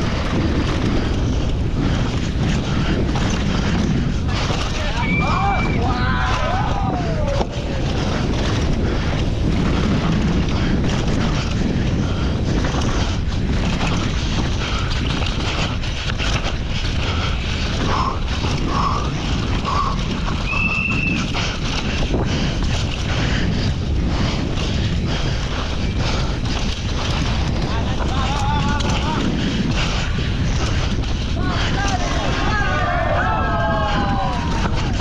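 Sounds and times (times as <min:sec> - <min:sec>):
bike chain and frame rattling: 0:00.0 - 0:35.0
tyres rumbling on dirt: 0:00.0 - 0:35.0
wind rushing over microphone: 0:00.0 - 0:35.0.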